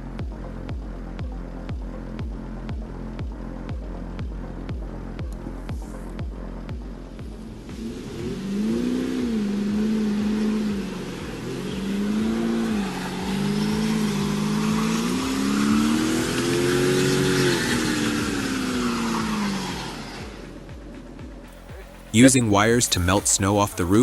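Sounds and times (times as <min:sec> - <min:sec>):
engine revving: 0:01.7 - 0:22.1.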